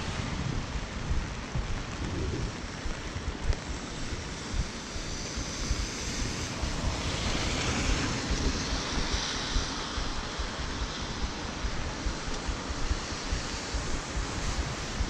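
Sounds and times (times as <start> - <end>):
rain hissing: 0.0 - 15.0
rain on an umbrella: 0.0 - 15.0
wind buffeting microphone: 0.0 - 15.0.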